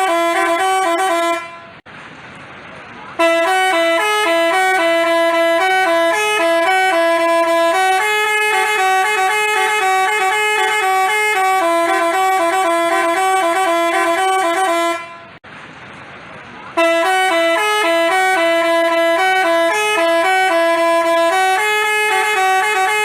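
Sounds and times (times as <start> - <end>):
bus horn playing a melody: 0.0 - 1.8, 3.2 - 15.4, 16.8 - 23.0.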